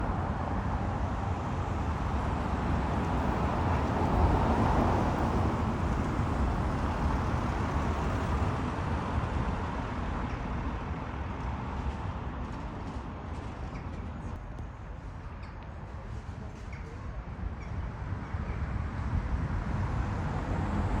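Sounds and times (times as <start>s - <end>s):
vehicle tyre and engine noise: 0.0s - 21.0s.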